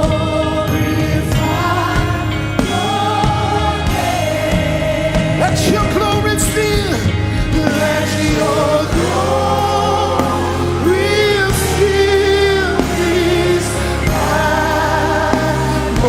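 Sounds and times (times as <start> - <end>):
band with bass and keys: 0.0 - 16.0
voices singing gospel melody: 0.0 - 16.0.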